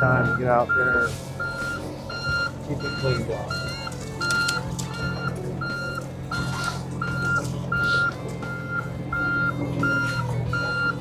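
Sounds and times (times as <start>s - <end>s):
diesel engine running: 0.0s - 11.0s
excavator travel alarm beeping: 0.0s - 11.0s.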